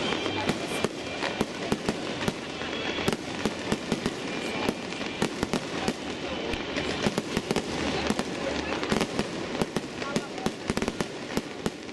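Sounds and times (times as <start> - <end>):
fireworks bangs and crackles: 0.0 - 11.9
fireworks hiss: 0.0 - 11.9.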